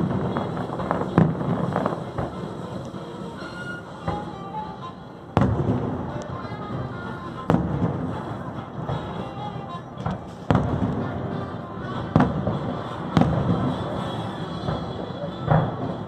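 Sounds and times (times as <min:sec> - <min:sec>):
fireworks bangs: 0:00.0 - 0:04.8, 0:05.4 - 0:16.0
show music: 0:00.0 - 0:16.0.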